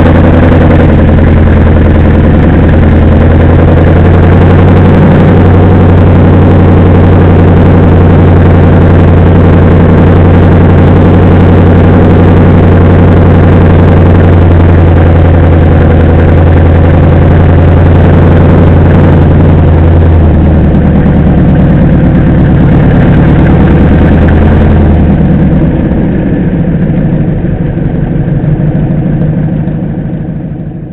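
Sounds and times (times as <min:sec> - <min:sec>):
car engine running slowly: 0:00.0 - 0:30.9.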